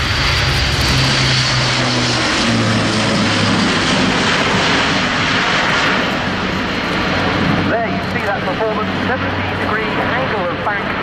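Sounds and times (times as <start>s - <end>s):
turboprop aircraft engines drone: 0.0s - 11.0s.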